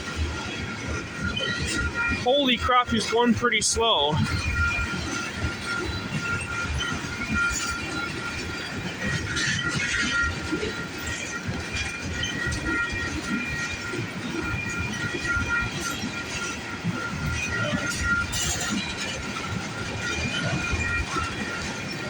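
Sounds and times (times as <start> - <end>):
train cars rumbling past: 0.0 - 22.0
wheels squealing: 0.1 - 22.0.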